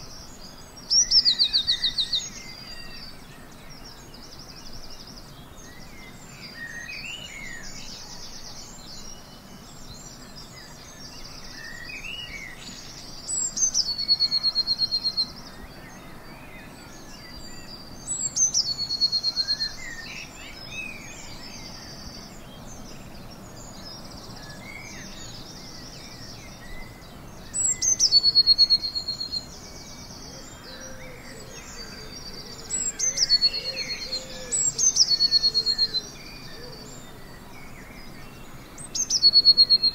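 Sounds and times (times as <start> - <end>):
faint birds chirping: 0.0 - 39.9
loud high birdsong: 0.0 - 39.9.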